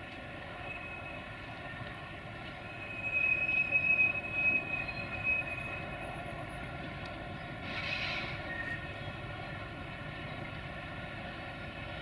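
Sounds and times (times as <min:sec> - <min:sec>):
diesel train engine humming: 0:00.0 - 0:12.0.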